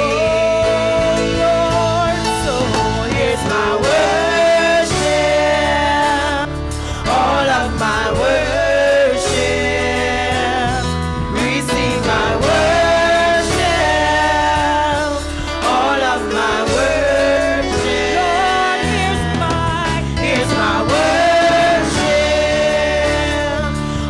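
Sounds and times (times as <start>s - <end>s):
instrumental accompaniment: 0.0s - 24.0s
women singing gospel song: 0.0s - 24.0s.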